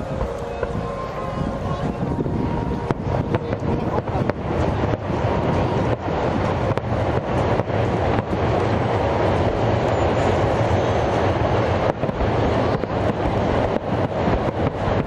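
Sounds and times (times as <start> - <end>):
fireworks bangs: 0.0 - 10.4, 11.2 - 15.0
low rumble of booms: 0.0 - 15.0.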